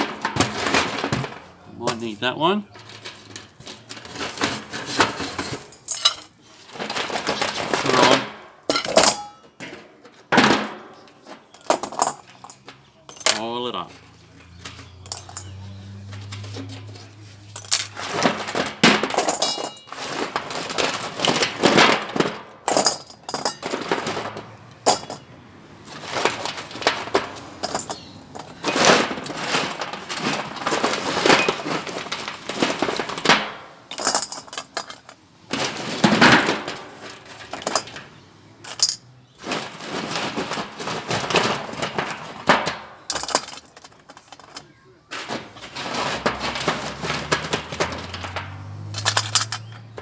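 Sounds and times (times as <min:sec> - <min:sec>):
scrap metal clattering: 0:00.0 - 0:50.0.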